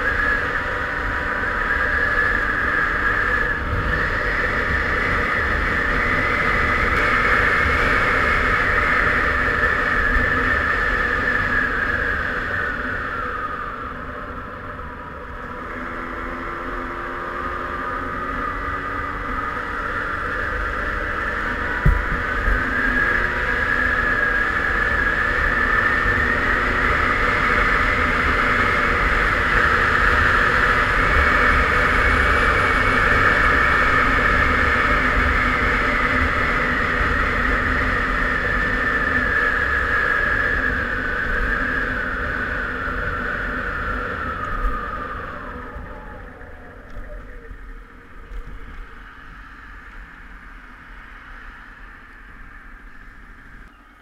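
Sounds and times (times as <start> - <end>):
wind rumble on microphone: 0.0 - 53.8
two-stroke moped engine whine: 0.0 - 54.0.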